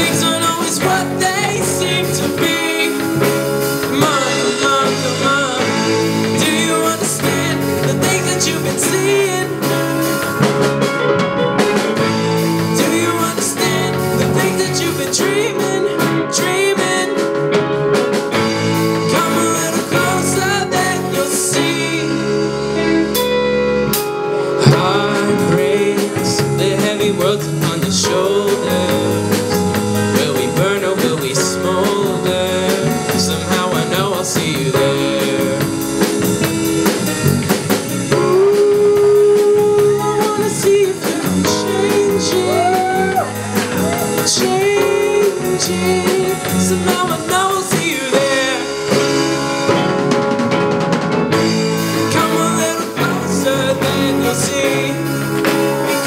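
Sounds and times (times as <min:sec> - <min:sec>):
man singing: 0:00.0 - 0:50.6, 0:51.2 - 0:56.0
live rock band playing: 0:00.0 - 0:56.0.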